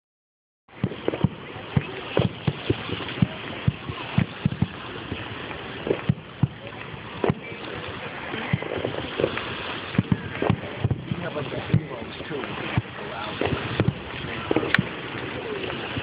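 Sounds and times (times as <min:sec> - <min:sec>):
fireworks bangs and pops: 0:00.7 - 0:16.0.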